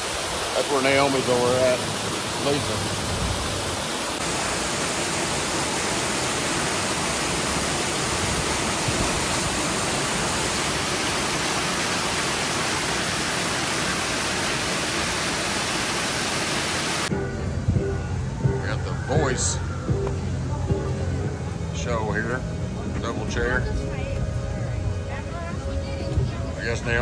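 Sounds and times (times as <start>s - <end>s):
fountain water rushing: 0.0s - 27.0s.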